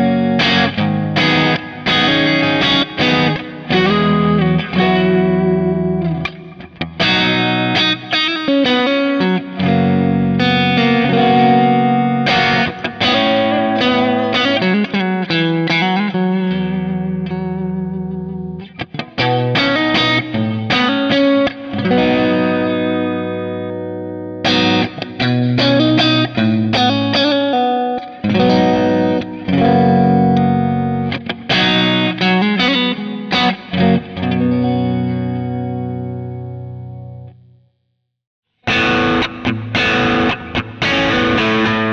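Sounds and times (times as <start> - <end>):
overdriven electric guitar: 0.0 - 37.7, 38.5 - 41.9.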